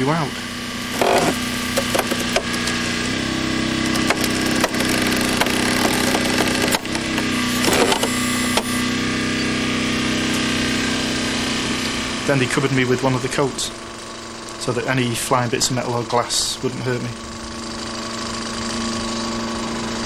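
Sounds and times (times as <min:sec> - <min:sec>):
hydraulic power unit humming: 0:00.0 - 0:20.0.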